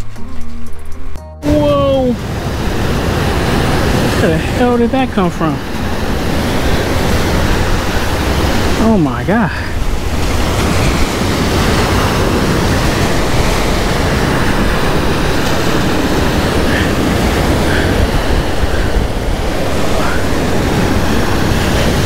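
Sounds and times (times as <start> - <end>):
waves washing against shore: 1.4 - 22.0
wind rushing over microphone: 1.4 - 22.0.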